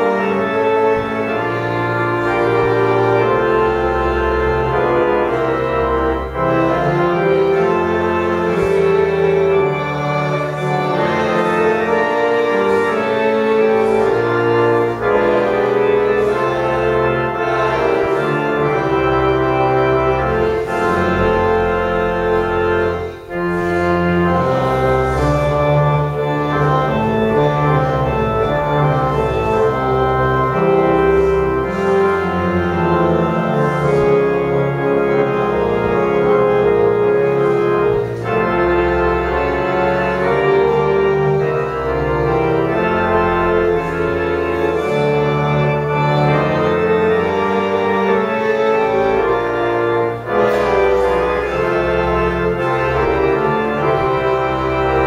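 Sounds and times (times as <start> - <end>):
church organ playing held chords: 0.0 - 55.0.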